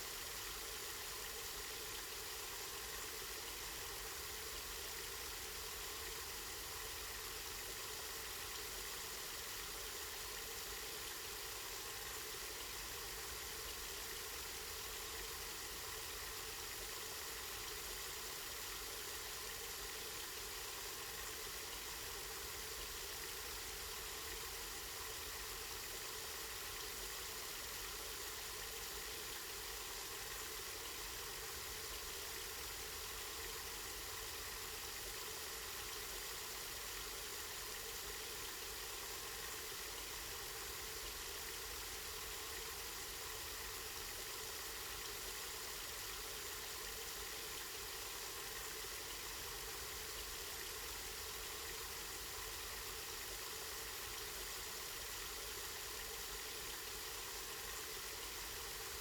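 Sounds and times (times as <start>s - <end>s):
spring water flowing: 0.1s - 59.0s.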